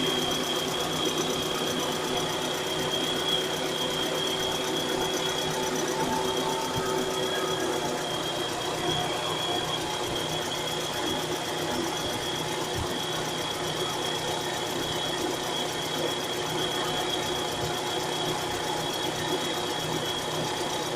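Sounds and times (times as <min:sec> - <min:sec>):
high-pitched whine: 0:00.0 - 0:20.9.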